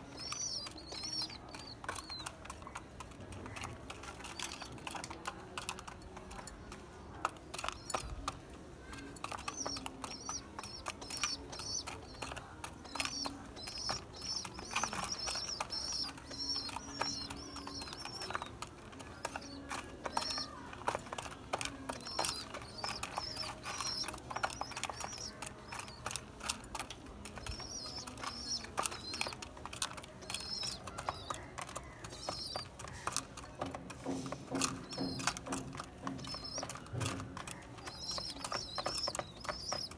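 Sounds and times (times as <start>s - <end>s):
pigeons pecking grain: 0.0s - 39.9s.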